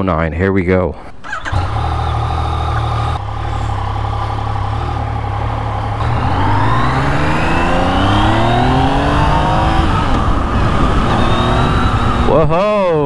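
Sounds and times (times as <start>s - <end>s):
motorcycle engine starting and running: 1.0s - 12.7s.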